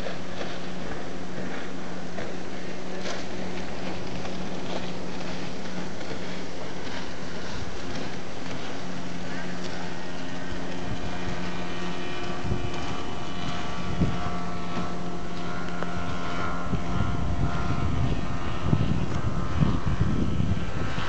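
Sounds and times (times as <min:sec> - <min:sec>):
steady engine hum: 0:00.0 - 0:21.0
wind gusting on microphone: 0:00.0 - 0:21.0.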